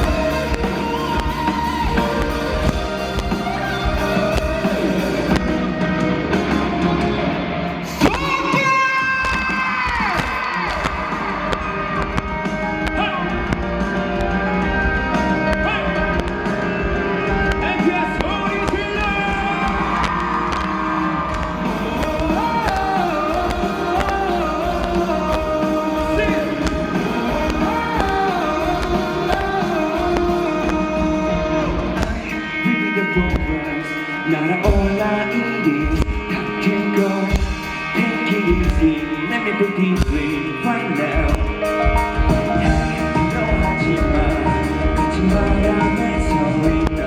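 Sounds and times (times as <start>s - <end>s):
live rock band playing loud: 0.0s - 47.0s.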